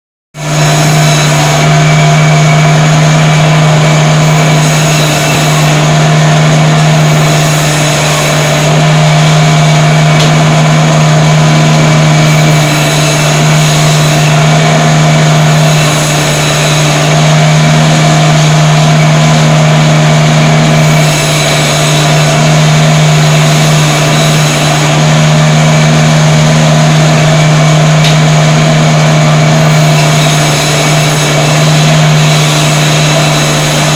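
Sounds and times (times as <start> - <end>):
meat-cutting machine motor hum: 0.3 - 33.9.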